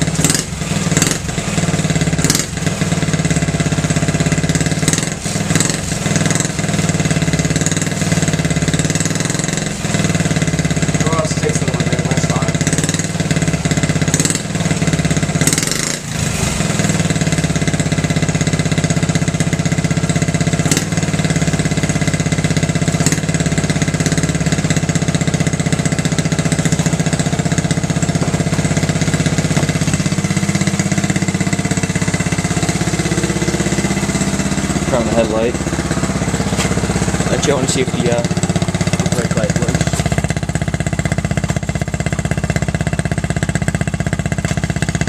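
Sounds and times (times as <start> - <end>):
small engine idling: 0.0 - 45.0.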